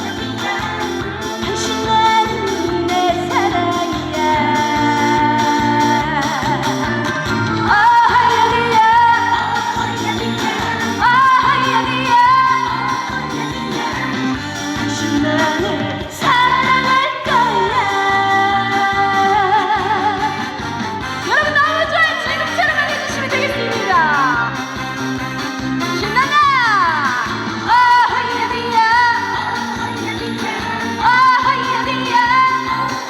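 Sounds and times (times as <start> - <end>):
pop backing track with beat: 0.0 - 33.0
woman singing with vibrato: 0.0 - 33.0.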